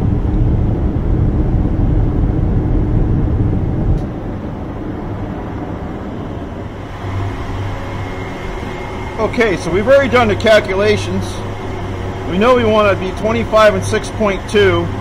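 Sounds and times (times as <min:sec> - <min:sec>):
gas burners rumbling: 0:00.0 - 0:15.0.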